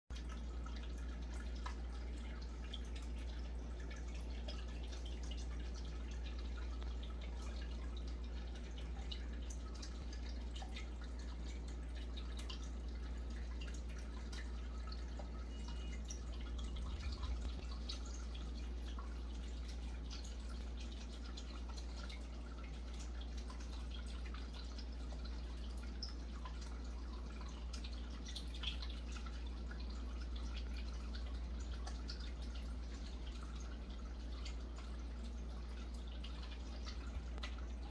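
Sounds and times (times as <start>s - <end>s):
water dripping and trickling: 0.1s - 37.9s.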